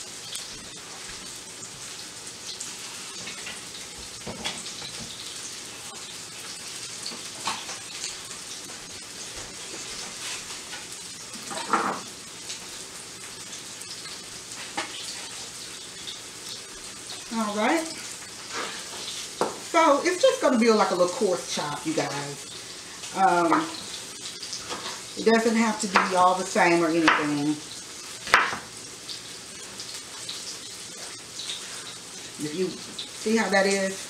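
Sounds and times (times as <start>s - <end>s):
meat sizzling in a skillet: 0.0s - 34.0s.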